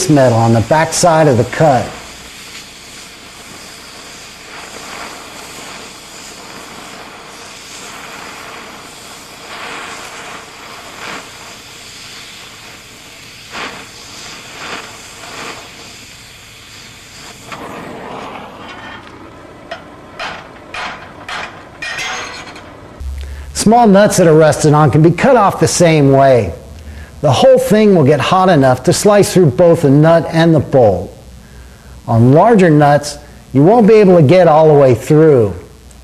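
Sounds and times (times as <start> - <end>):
cutting torch hissing: 0.0 - 36.0.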